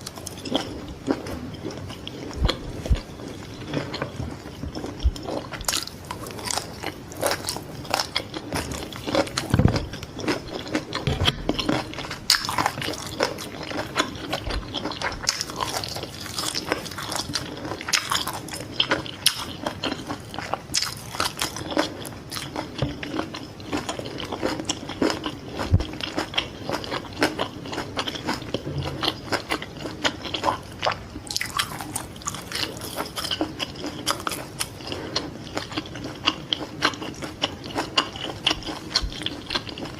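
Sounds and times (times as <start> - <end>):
chewing and biting crunchy food: 0.0 - 39.9.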